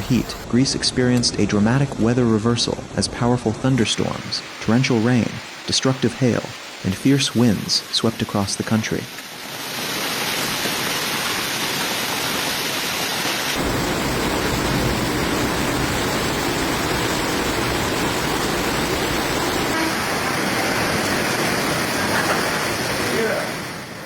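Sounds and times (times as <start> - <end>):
heavy rainstorm rushing: 0.0 - 0.5, 3.6 - 24.0.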